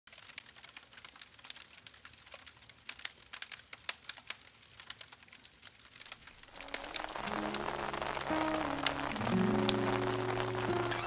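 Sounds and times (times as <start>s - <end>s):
campfire crackling and popping: 0.1s - 11.0s
soft fire hiss: 0.4s - 11.0s.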